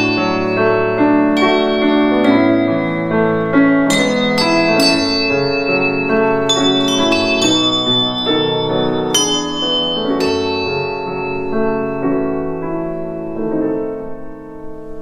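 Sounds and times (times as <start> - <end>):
handbells ringing a melody: 0.0 - 14.0
piano accompaniment: 0.0 - 15.0.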